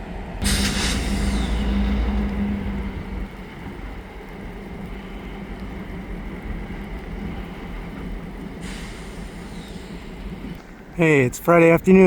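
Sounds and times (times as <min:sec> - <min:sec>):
diesel locomotive rumbling: 0:00.0 - 0:12.0
background hiss: 0:00.4 - 0:12.0.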